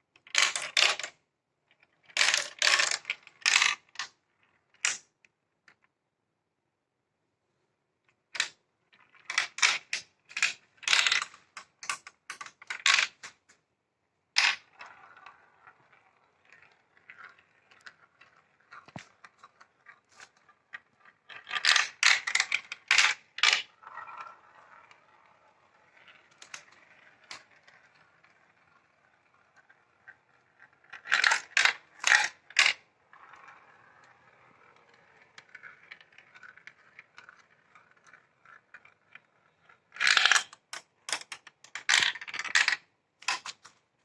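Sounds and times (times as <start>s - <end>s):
marbles clattering on plastic track: 0.2s - 5.1s, 8.3s - 13.5s, 14.4s - 43.8s.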